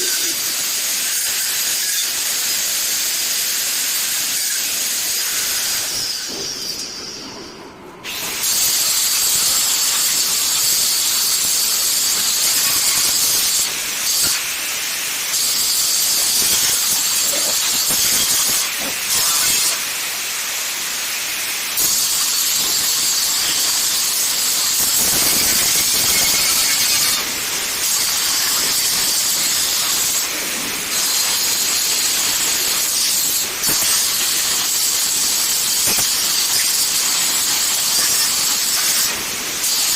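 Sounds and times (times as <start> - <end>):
angle grinder grinding metal: 0.0 - 7.2, 8.1 - 39.9.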